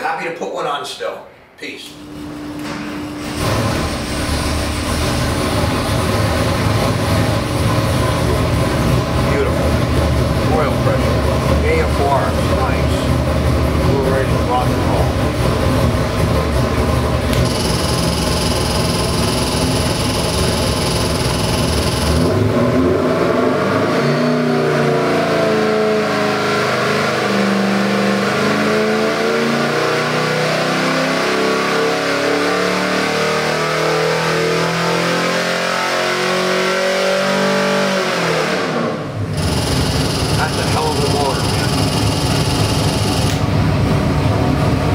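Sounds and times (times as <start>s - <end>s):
engine revving on a dyno: 2.0s - 44.9s.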